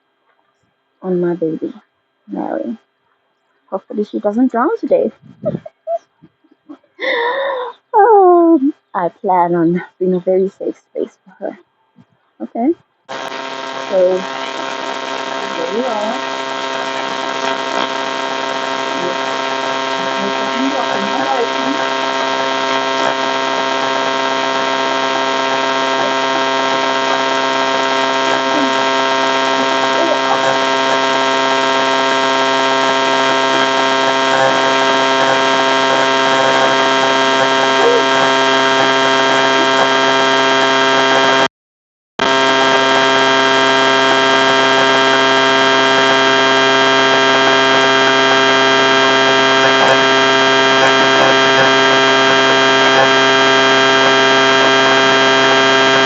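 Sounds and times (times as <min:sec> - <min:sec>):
steady drone of held tones: 0:08.8 - 0:41.5, 0:42.2 - 0:56.0.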